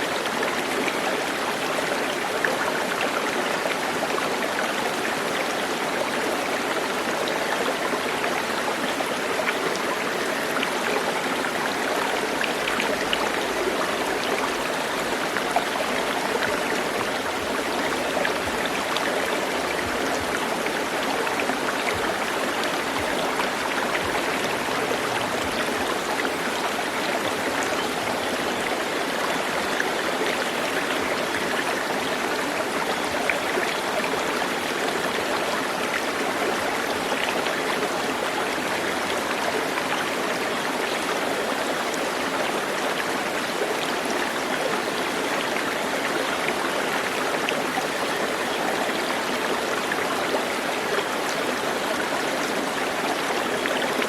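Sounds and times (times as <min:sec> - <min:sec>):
stream flowing: 0:00.0 - 0:54.0
water splashes and trickles: 0:00.0 - 0:54.0.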